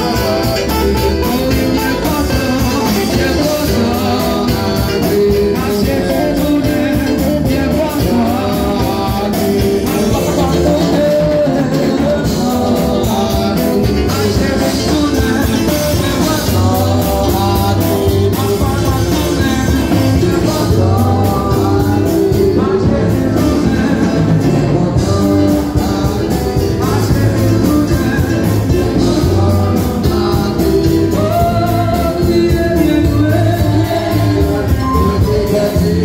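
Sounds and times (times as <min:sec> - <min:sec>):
congregation singing: 0:00.0 - 0:36.0
electric keyboard: 0:00.0 - 0:36.0
lead singers on microphones: 0:00.0 - 0:36.0.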